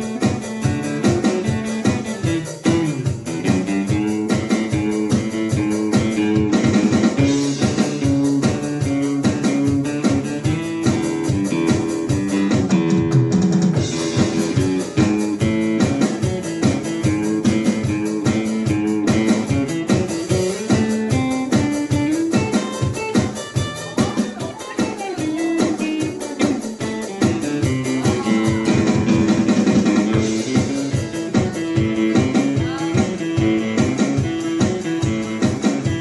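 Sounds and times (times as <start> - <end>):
acoustic guitars playing: 0.0 - 36.0
electronic drum beat: 0.0 - 36.0.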